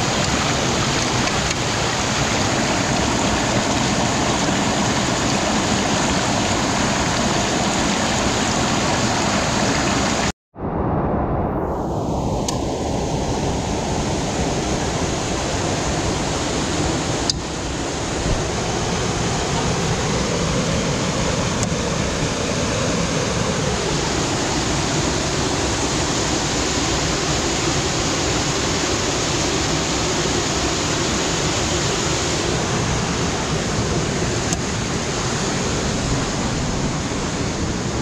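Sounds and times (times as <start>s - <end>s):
water rushing: 0.0s - 10.3s, 11.4s - 38.0s.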